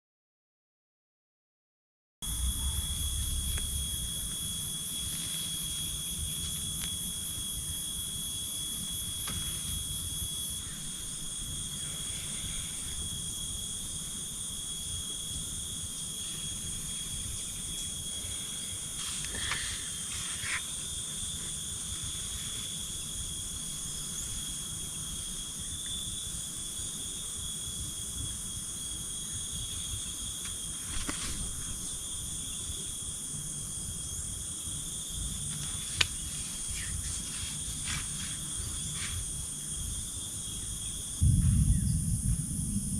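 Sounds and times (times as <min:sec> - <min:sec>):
insects singing: 0:02.2 - 0:42.9.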